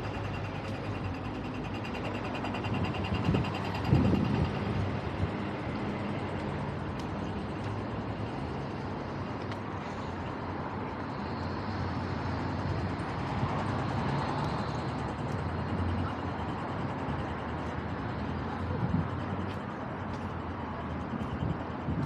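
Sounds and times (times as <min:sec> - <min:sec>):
cars driving by: 0:00.0 - 0:22.0.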